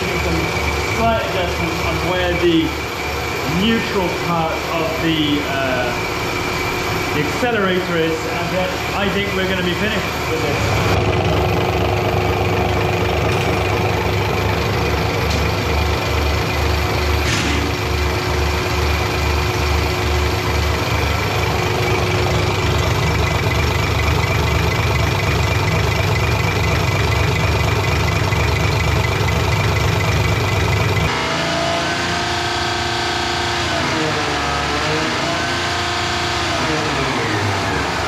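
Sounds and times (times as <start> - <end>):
machine hum and whine: 0.0 - 38.0.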